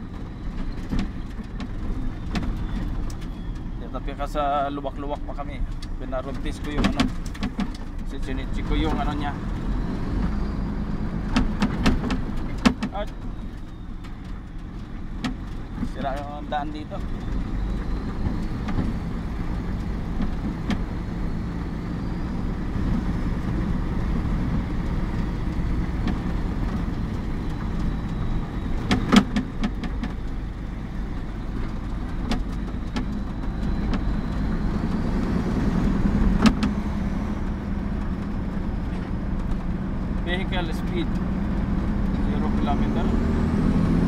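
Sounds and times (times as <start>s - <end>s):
diesel truck engine running: 0.0s - 44.0s
sharp knocks and rattles: 5.0s - 10.4s, 11.1s - 21.6s, 22.9s - 42.8s.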